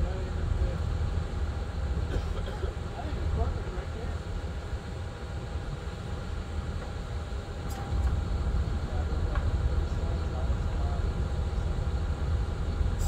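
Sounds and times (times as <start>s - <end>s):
heavy equipment engines rumbling: 0.0s - 13.0s.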